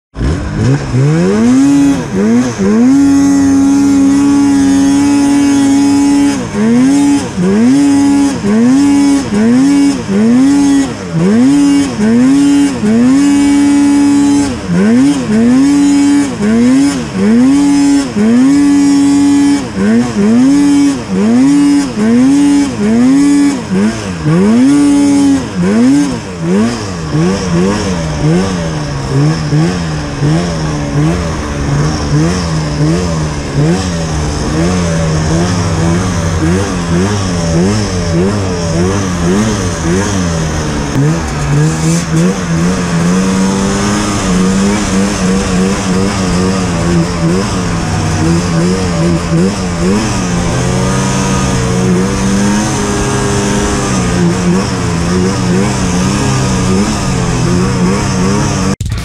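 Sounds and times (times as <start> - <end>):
snowmobile engine revving: 0.1 - 59.0.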